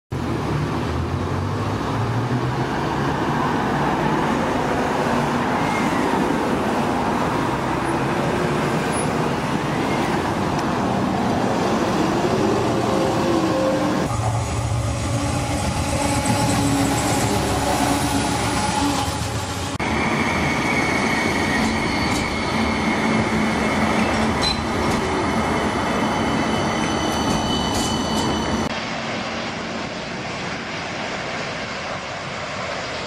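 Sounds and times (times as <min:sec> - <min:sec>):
bus and car engines: 0:00.1 - 0:33.0
train approaching: 0:00.4 - 0:33.0.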